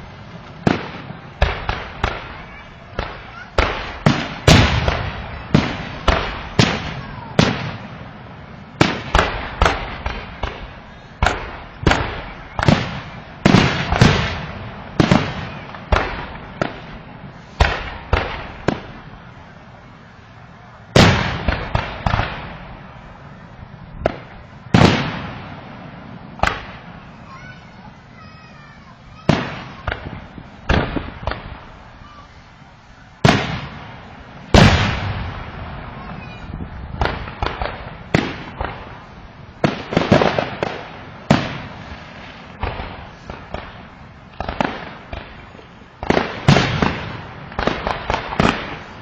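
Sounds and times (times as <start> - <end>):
fireworks bangs with echo: 0.0 - 20.3, 20.9 - 49.0.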